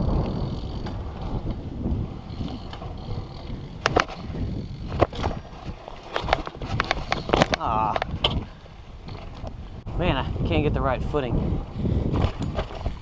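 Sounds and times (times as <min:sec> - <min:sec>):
skateboard wheels rolling on pavement: 0:00.0 - 0:13.0
wind on microphone: 0:00.0 - 0:13.0.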